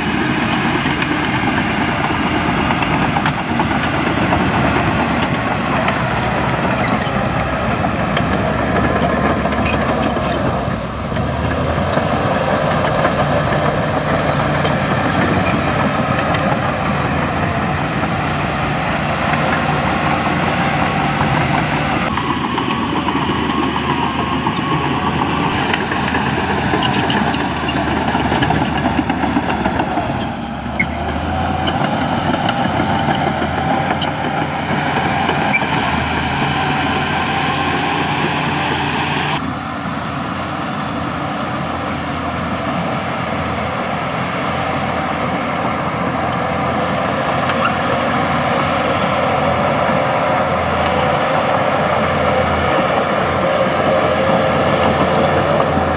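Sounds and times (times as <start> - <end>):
heavy diesel machines running: 0.0 - 55.9.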